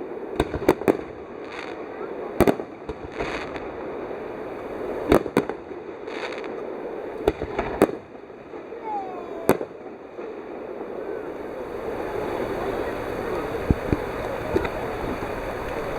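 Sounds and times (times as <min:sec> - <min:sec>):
fireworks bursting with bangs: 0:00.0 - 0:15.9
fireworks crackling: 0:00.0 - 0:15.9.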